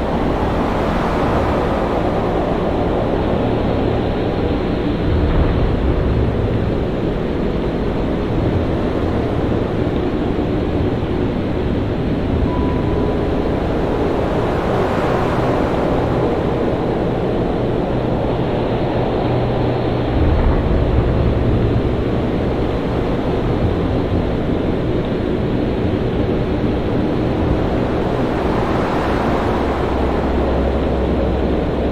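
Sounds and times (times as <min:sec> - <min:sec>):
heavy surf: 0:00.0 - 0:31.9
wind: 0:00.0 - 0:31.9.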